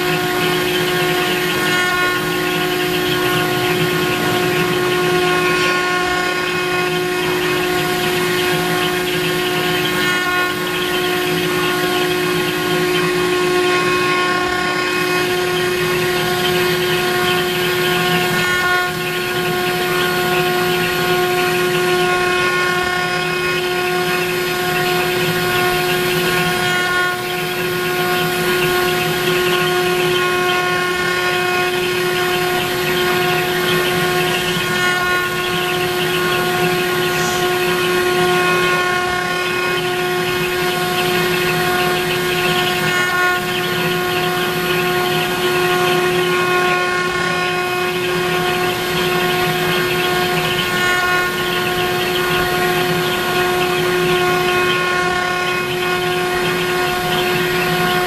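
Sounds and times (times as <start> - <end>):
bit cutting wood rasp: 0.0 - 58.0
router spindle whine: 0.0 - 58.0.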